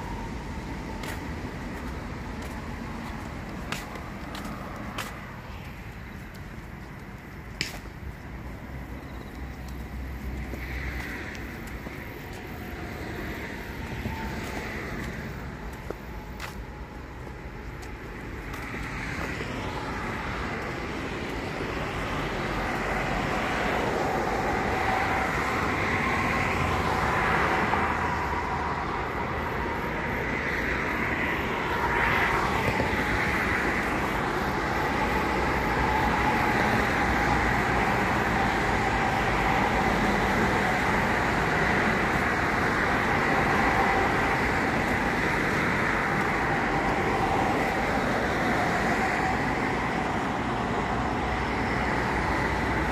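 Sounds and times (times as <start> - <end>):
road traffic noise: 0.0 - 52.9.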